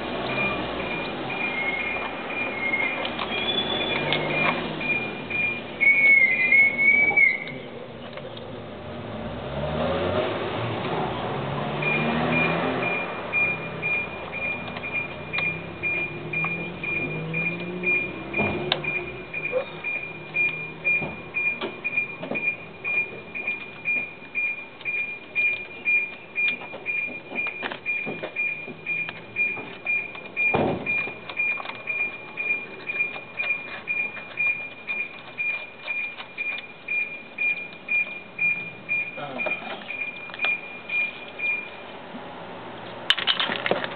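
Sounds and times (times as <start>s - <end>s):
high electronic beep: 0.3s - 7.6s, 11.8s - 41.8s.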